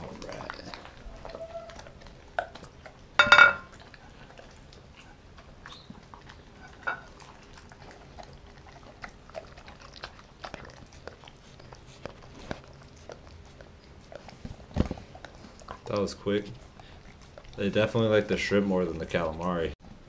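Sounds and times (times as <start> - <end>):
dog chewing and licking: 0.0 - 20.0.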